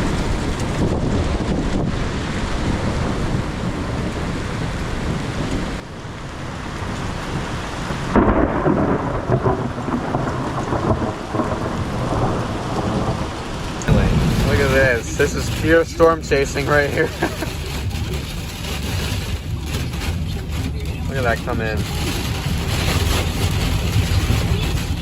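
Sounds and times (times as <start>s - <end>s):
gusting wind: 0.0s - 25.0s
heavy rain: 0.0s - 25.0s
low thunder rumble: 0.0s - 25.0s.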